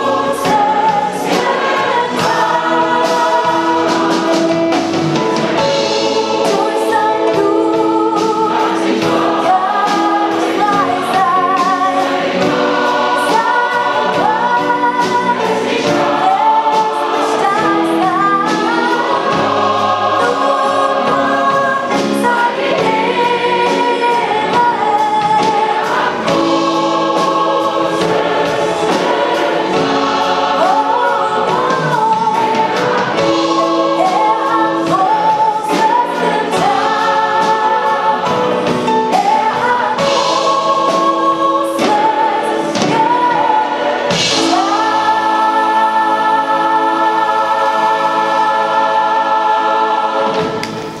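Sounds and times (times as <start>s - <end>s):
mixed choir singing a hymn: 0.0s - 51.0s.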